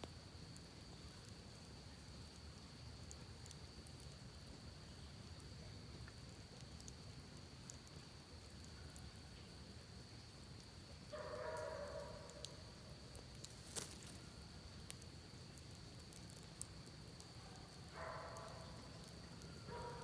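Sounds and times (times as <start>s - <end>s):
campfire crackling and popping: 0.0s - 11.3s, 12.3s - 20.0s.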